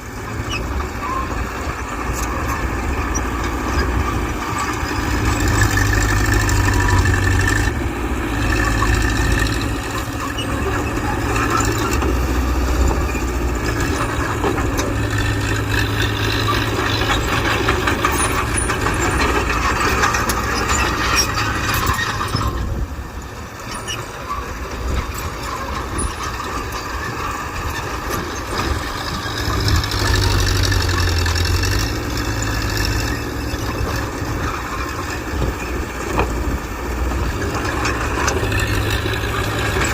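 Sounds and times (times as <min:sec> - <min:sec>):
bulldozer diesel engine working: 0:00.0 - 0:39.9
metallic clatter and squeaking: 0:00.1 - 0:39.9.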